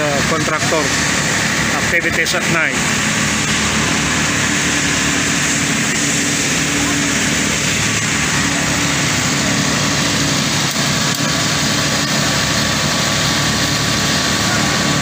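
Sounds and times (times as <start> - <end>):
diesel engines running: 0.0 - 15.0.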